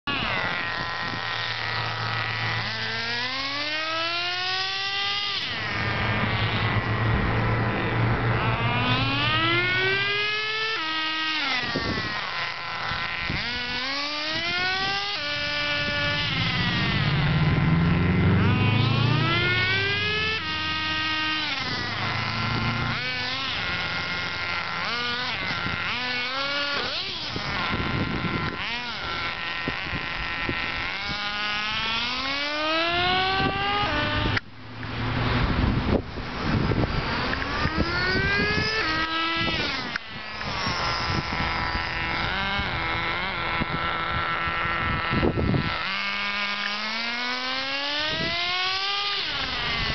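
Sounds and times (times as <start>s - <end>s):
small engine revving: 0.0s - 49.9s.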